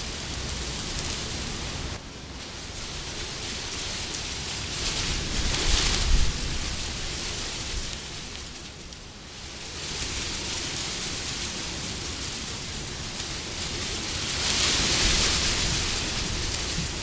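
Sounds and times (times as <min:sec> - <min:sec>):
wind blowing: 0:00.0 - 0:08.3, 0:11.4 - 0:17.0.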